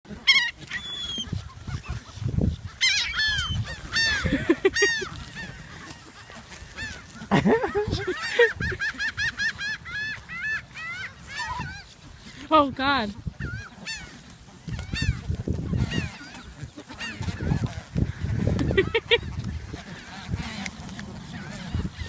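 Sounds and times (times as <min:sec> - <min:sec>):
geese honking: 0:00.1 - 0:22.0.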